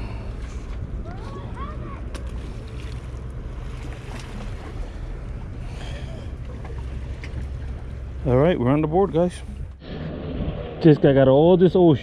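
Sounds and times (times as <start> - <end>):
motorboat engine droning: 0.0 - 12.0
waves lapping against rocks: 0.4 - 11.6.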